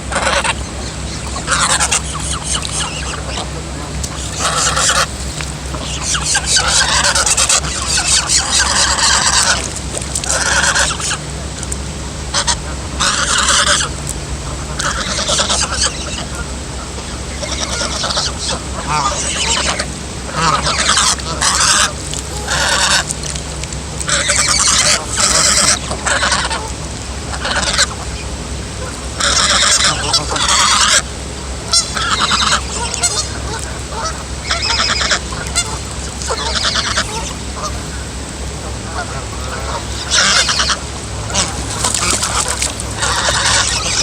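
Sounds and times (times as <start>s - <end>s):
gosling honking: 0.0s - 44.0s.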